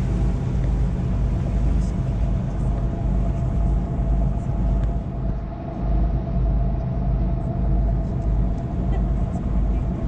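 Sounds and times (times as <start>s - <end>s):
boat engine rumbling: 0.0s - 10.0s
faint constant hum: 0.0s - 10.0s
water rushing along hull: 0.0s - 10.0s.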